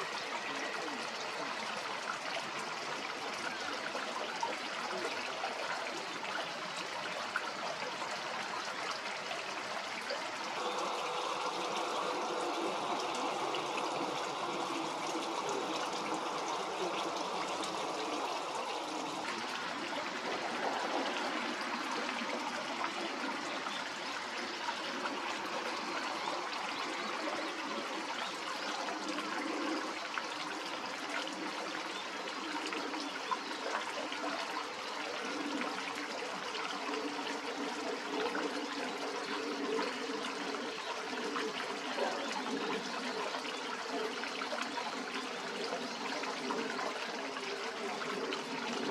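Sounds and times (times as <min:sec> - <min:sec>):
running water trickling: 0:00.0 - 0:48.9.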